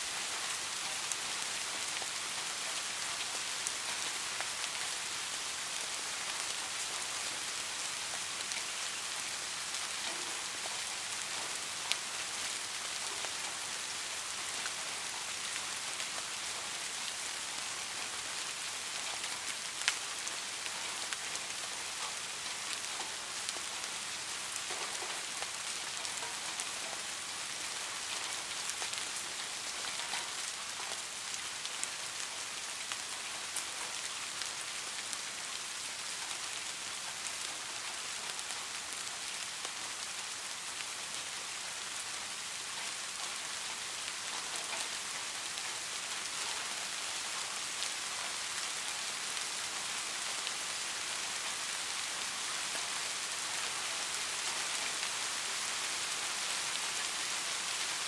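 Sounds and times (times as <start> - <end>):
steady rainfall hiss: 0.0 - 58.0.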